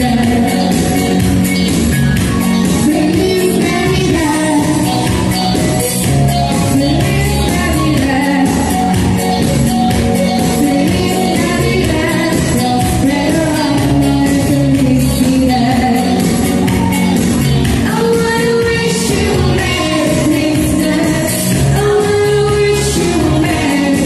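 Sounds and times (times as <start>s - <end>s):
woman singing into microphone: 0.0s - 1.5s, 2.2s - 24.0s
pop music accompaniment: 0.0s - 24.0s.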